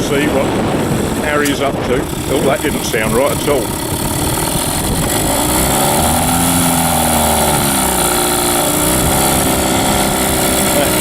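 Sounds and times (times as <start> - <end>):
outboard motor running unevenly: 0.0 - 11.0.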